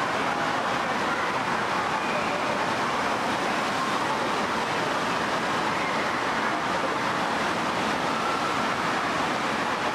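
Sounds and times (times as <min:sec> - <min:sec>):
running water: 0:00.0 - 0:09.9.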